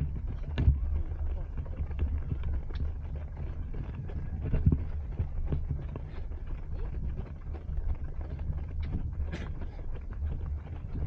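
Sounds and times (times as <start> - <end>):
running footsteps on pavement: 0.0 - 11.0
wind rumbling on microphone: 0.0 - 11.0.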